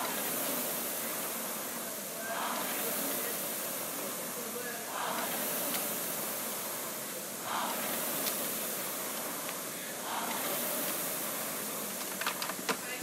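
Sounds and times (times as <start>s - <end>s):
rowing machine flywheel whooshing: 0.0s - 13.0s.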